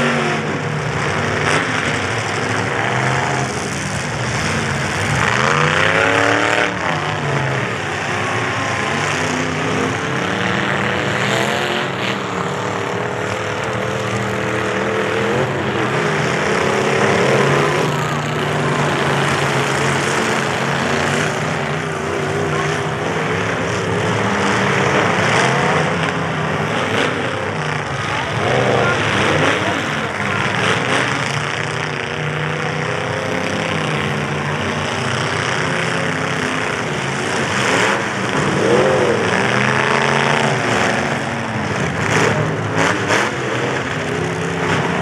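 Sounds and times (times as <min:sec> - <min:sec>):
truck engines revving: 0:00.0 - 0:45.0.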